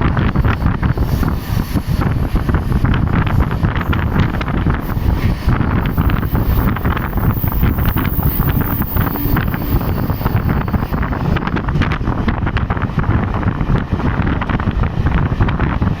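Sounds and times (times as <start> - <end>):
train running rumble: 0.0 - 16.0
wind buffeting microphone: 0.0 - 16.0.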